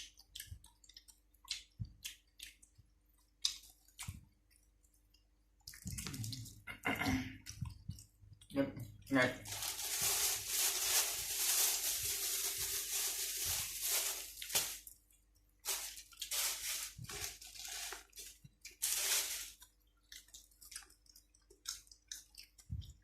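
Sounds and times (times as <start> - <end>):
chewing and crunching food: 0.0 - 23.0.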